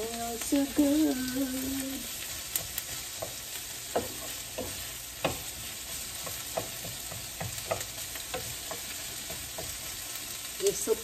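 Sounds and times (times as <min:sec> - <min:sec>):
onions sizzling in oil: 0:00.0 - 0:11.0
spatula scraping a pan: 0:00.8 - 0:11.0.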